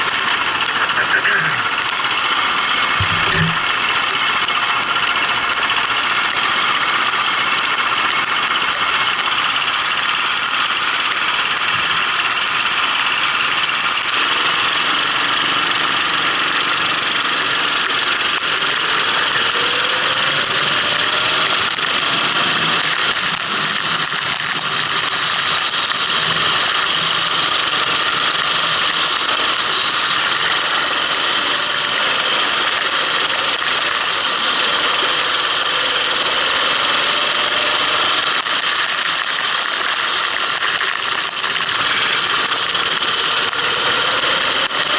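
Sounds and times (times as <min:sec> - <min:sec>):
go-kart engine running: 0:00.0 - 0:44.9.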